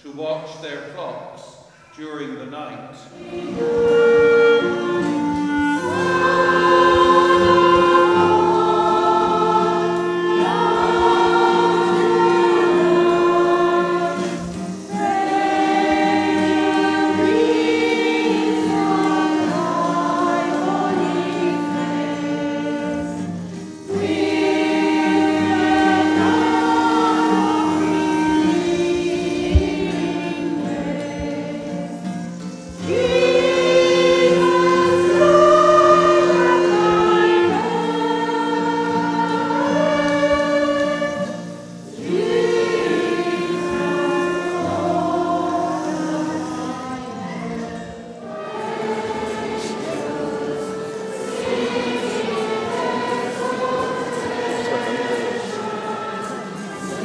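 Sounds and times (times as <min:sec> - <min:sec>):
acoustic guitars: 0:00.0 - 0:57.0
church choir singing a hymn: 0:02.5 - 0:57.0
clarinet: 0:03.1 - 0:57.0.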